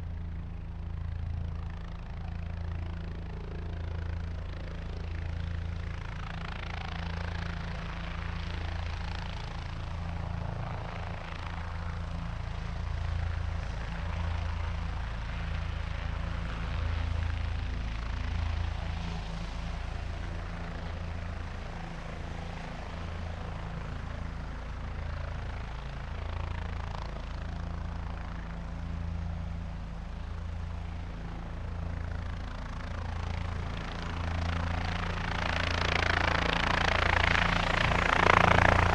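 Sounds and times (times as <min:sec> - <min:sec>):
helicopter rotor throbbing: 0:00.0 - 0:38.9.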